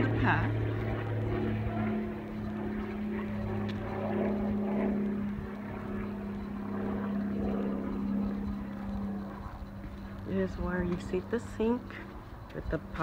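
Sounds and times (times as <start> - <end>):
steady motor hum: 0.0 - 13.0.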